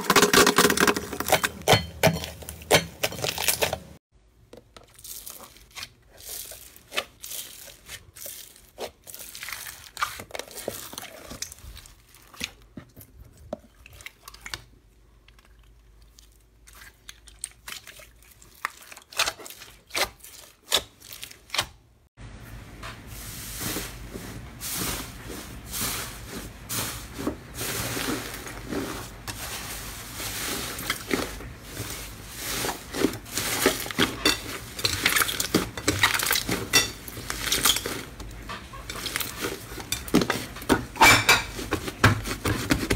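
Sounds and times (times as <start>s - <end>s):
slime crackling and squishing: 4.6s - 21.9s, 24.7s - 42.9s.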